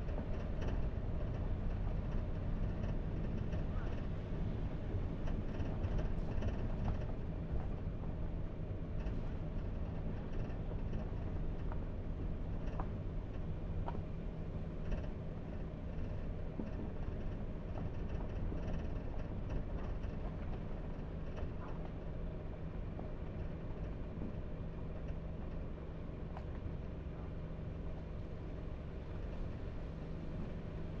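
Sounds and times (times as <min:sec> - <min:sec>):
car engine and road drone: 0:00.0 - 0:31.0.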